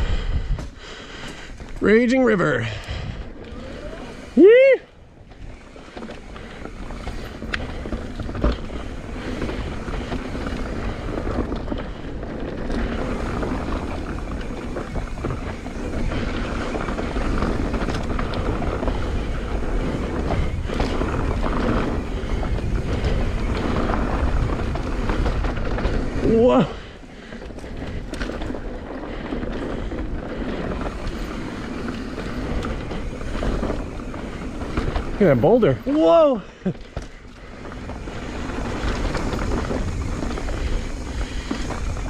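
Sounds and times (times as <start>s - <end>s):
wind rushing over microphone: 0.0s - 1.8s, 2.5s - 42.0s
bike tyres rolling over dirt and rocks: 0.1s - 42.0s
bike knocking and rattling: 0.5s - 42.0s.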